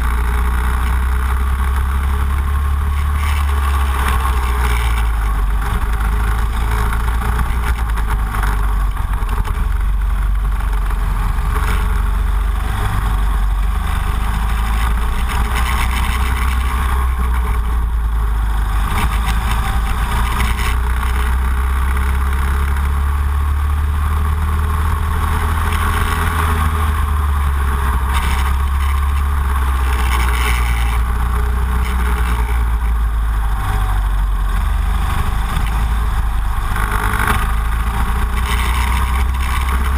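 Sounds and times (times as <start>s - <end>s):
go-kart engine at speed: 0.0s - 39.9s
low rumble: 0.0s - 39.9s.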